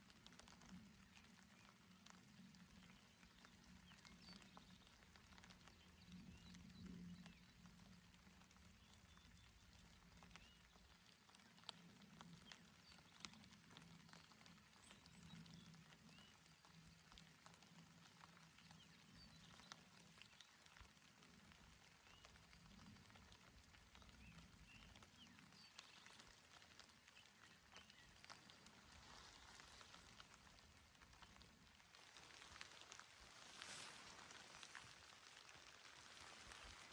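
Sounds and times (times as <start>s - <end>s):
gentle rain falling: 0.0s - 36.9s.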